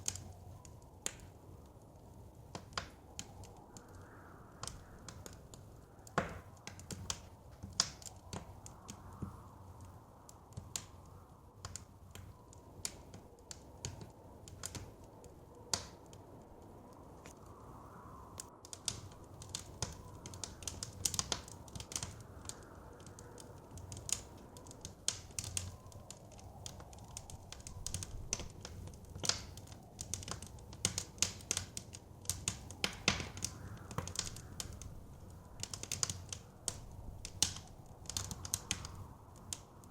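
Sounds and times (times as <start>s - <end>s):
blizzard wind rushing: 0.0s - 39.9s
fire pops and snaps: 0.0s - 39.9s
wood fire crackling: 0.0s - 39.9s.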